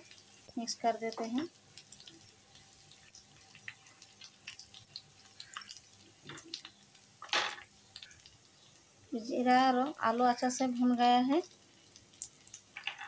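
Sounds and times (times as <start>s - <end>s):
oil sizzling with crackles and pops: 0.0s - 13.0s.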